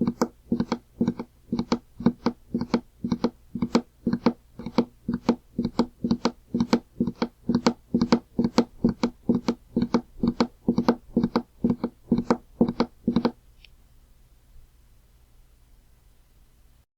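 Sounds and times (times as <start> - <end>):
faint hum: 0.0 - 16.9.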